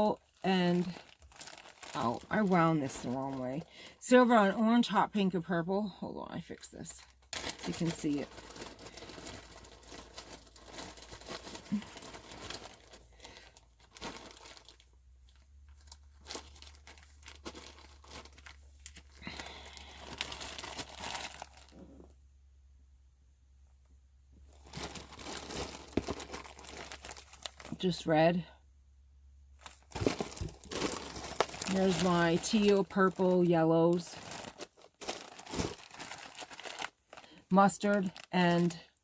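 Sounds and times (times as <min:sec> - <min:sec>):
zipper tape crinkling and rustling: 0:00.0 - 0:03.7, 0:07.0 - 0:22.1, 0:24.5 - 0:28.0, 0:29.6 - 0:38.8.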